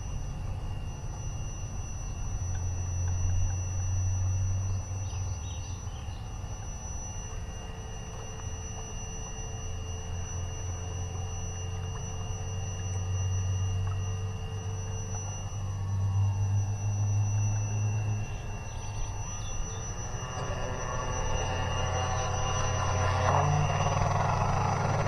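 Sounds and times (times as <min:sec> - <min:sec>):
drone motors humming: 0:00.0 - 0:25.0.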